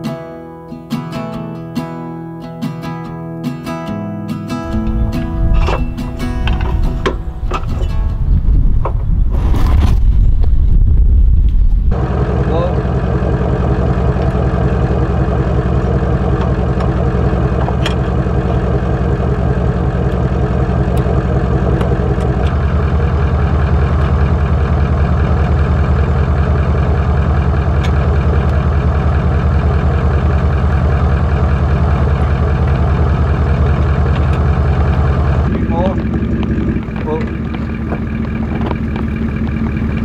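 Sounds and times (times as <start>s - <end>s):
engine idling: 4.5s - 9.4s, 10.0s - 40.0s.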